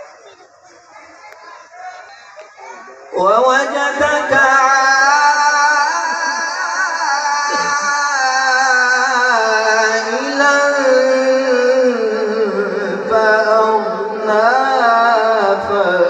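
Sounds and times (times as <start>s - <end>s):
man reciting melodically into microphone: 3.0s - 16.0s.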